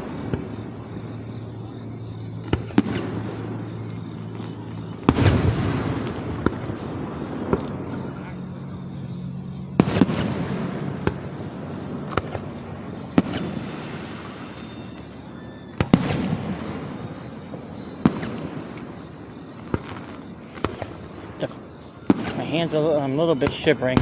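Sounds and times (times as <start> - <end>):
fireworks bursting with echo: 0.0 - 24.0.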